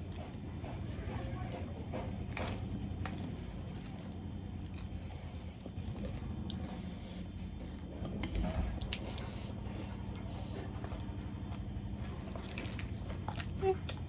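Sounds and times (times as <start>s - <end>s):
chewing with wet mouth noises: 0.0s - 14.0s
steady low hum: 0.0s - 14.0s.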